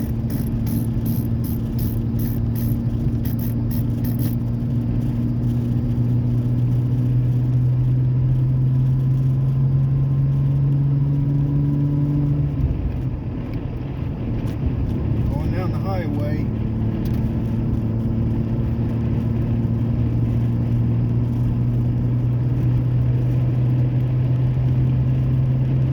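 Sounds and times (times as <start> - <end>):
truck exhaust deep drone: 0.0 - 25.9.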